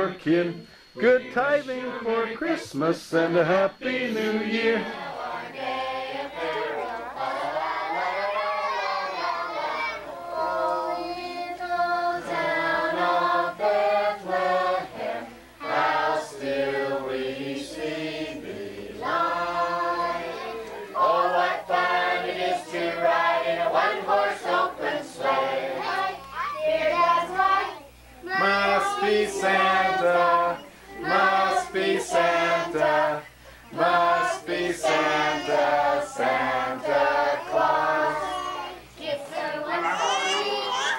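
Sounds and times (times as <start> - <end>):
children singing a carol: 0.0 - 40.9.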